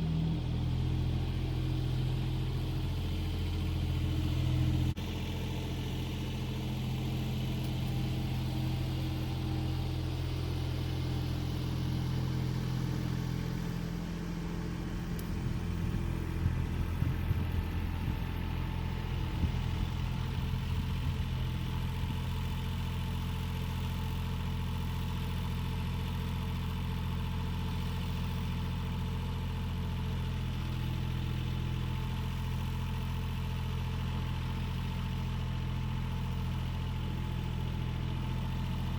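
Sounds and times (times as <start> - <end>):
engine running at low revs: 0.0 - 38.9.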